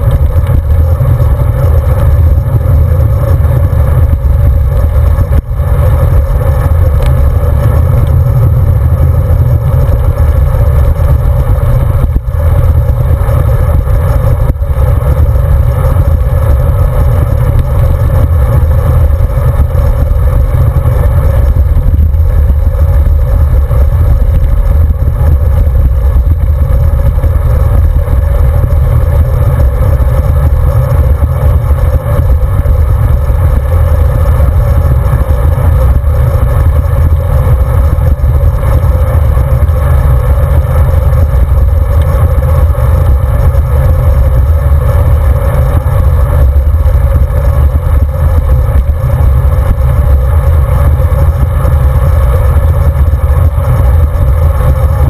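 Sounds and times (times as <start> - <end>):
tyre and road vibration: 0.0 - 55.0
wind buffeting microphone: 0.0 - 55.0.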